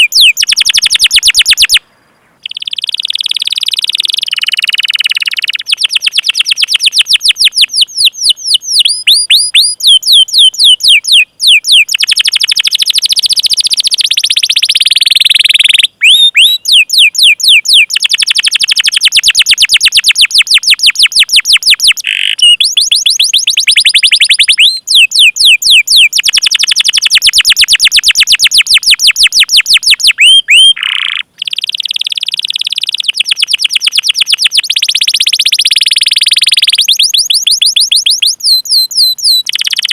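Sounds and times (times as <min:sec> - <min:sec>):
canary singing rapid chirps: 0:00.0 - 0:01.8, 0:02.4 - 0:39.9.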